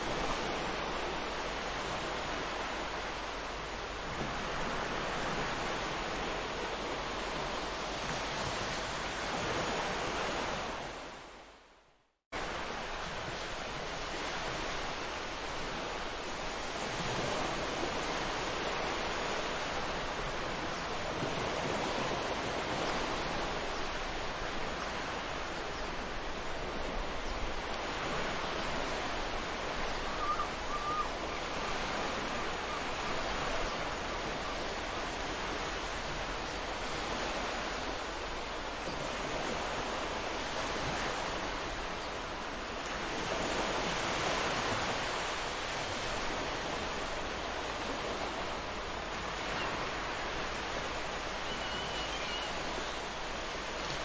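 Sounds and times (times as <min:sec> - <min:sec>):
surf waves washing onto beach: 0:00.0 - 0:11.7, 0:12.4 - 0:54.0.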